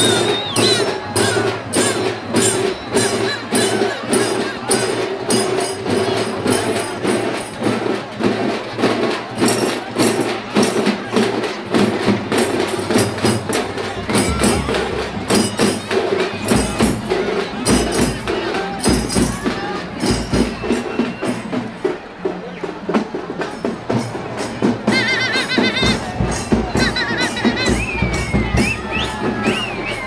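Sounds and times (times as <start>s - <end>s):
festival percussion beat: 0.0s - 30.0s
large crowd noise: 0.0s - 30.0s.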